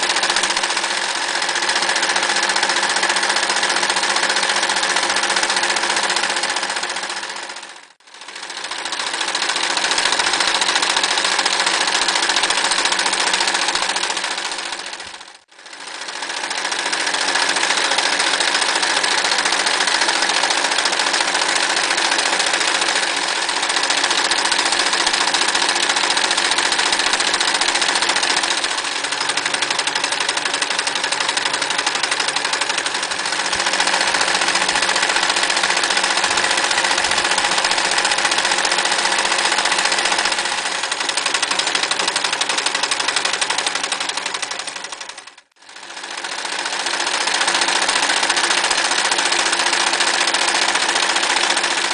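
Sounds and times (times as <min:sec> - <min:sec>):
electric sewing machine stitching: 0:00.0 - 0:51.9.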